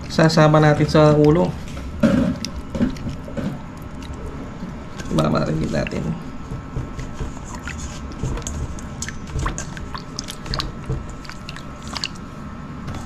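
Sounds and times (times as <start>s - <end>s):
hands squishing fish in marinade: 0.0s - 13.0s.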